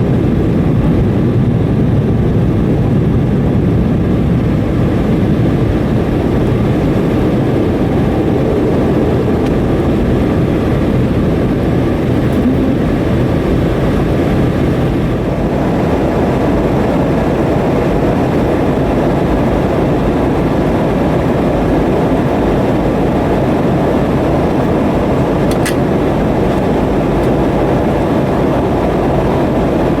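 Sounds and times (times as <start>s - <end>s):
jet engines and rushing air: 0.0s - 30.0s.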